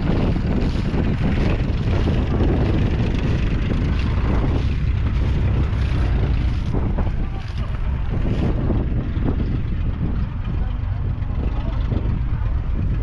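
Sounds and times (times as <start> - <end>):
diesel engine running: 0.0 - 13.0
wind buffeting microphone: 0.0 - 13.0.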